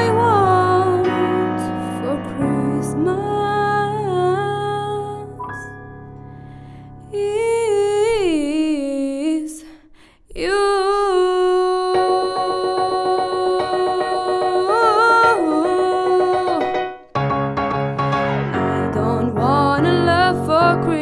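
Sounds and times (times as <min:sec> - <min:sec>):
woman singing: 0:00.0 - 0:05.4, 0:07.1 - 0:17.0, 0:18.7 - 0:21.0
piano chords: 0:00.0 - 0:08.4, 0:11.6 - 0:21.0.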